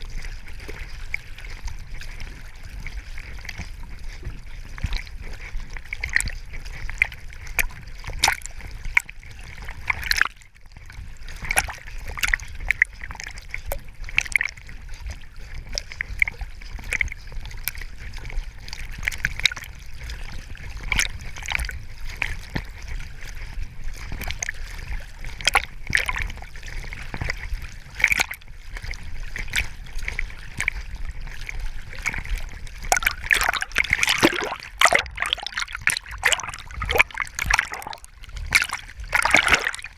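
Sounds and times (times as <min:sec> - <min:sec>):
low rumble of water buffeting: 0:00.0 - 0:39.9
water splashing and sloshing: 0:00.0 - 0:39.9.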